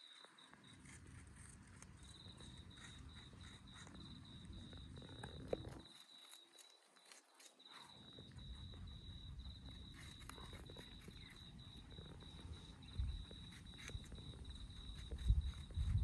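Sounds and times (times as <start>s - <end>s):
high insect trill: 0.0s - 16.0s
rabbits crunching apple: 0.0s - 16.0s.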